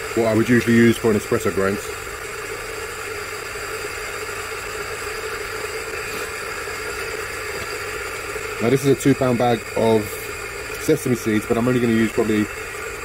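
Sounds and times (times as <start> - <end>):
coffee grinder motor whirring: 0.0 - 13.0.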